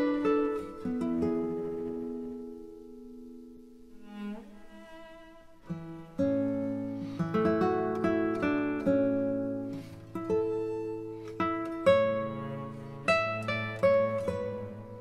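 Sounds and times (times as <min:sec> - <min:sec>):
plucked acoustic guitar: 0:00.0 - 0:15.0.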